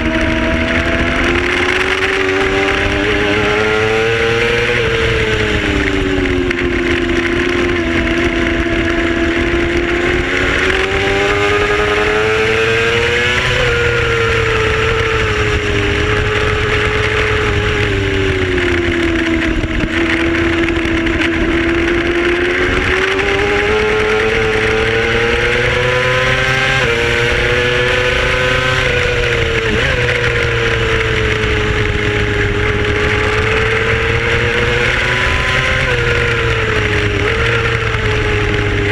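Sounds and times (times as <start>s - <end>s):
racing motorcycle engine: 0.0s - 38.9s.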